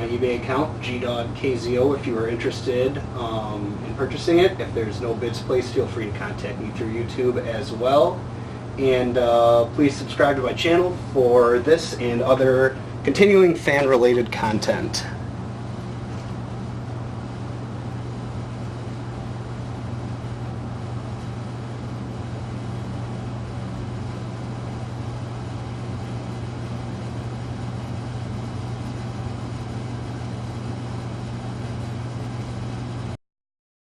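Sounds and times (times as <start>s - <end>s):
ceiling fan motor hum: 0.0s - 33.2s.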